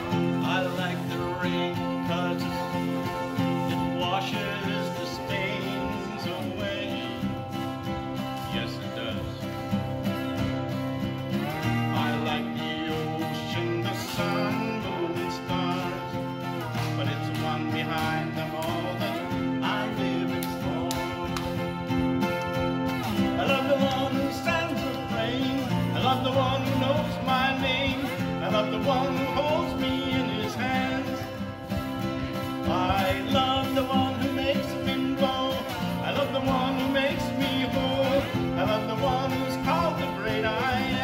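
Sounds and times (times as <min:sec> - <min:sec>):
man singing: 0:00.0 - 0:10.0, 0:11.2 - 0:41.0
acoustic guitar: 0:00.0 - 0:41.0.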